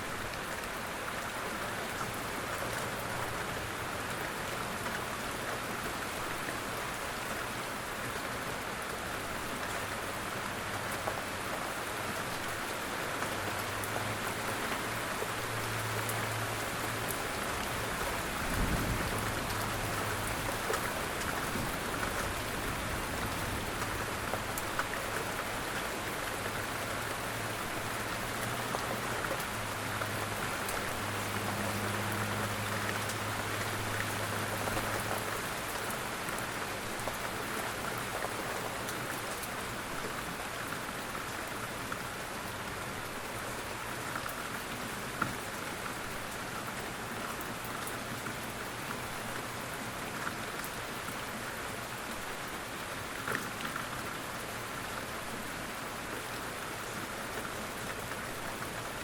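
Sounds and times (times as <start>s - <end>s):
gentle rainfall: 0.0s - 59.0s.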